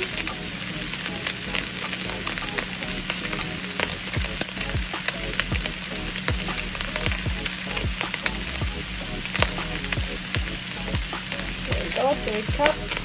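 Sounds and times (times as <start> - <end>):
crackling pops: 0.0 - 13.0
meat sizzling in a frying pan: 0.0 - 13.0.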